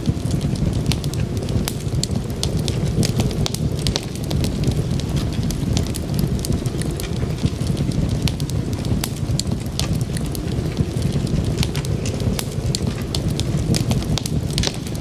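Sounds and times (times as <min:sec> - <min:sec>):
low rumble: 0:00.0 - 0:15.0
wood fire crackling: 0:00.0 - 0:15.0
sharp pops and clicks: 0:00.2 - 0:15.0.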